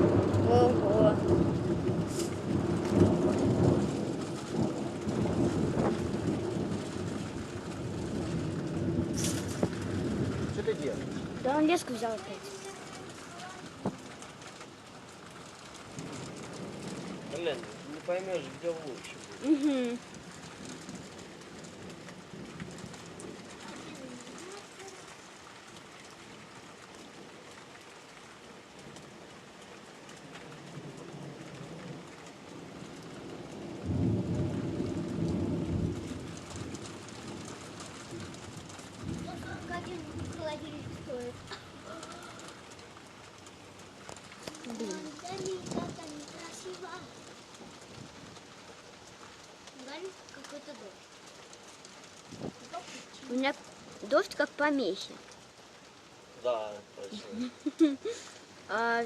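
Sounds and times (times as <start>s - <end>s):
rain hissing: 0.0s - 59.0s
thunder rumbling: 0.0s - 59.0s.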